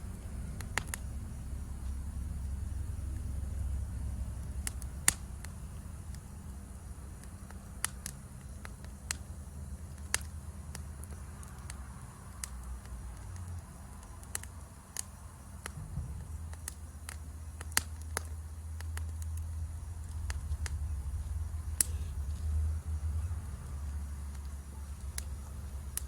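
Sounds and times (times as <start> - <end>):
campfire crackling: 0.0 - 26.0
insect chorus: 0.0 - 26.0.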